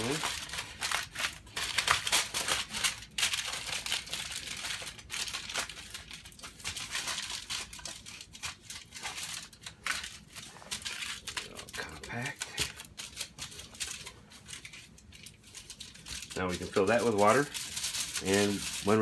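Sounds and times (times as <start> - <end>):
aluminum foil crinkling: 0.0 - 19.0.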